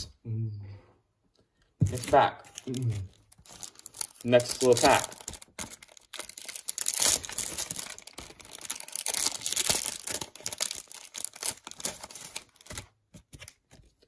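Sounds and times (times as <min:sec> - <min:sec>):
wrapper tearing and crinkling: 0:01.9 - 0:13.5.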